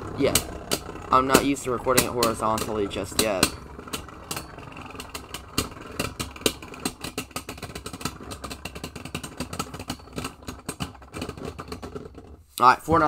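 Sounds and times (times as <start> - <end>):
spinning tops clacking: 0.0 - 12.2
spinning tops whirring: 0.0 - 12.4.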